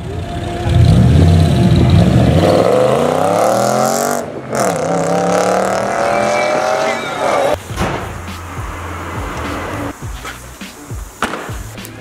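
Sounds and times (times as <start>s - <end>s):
car accelerating with loud exhaust: 0.0s - 10.0s.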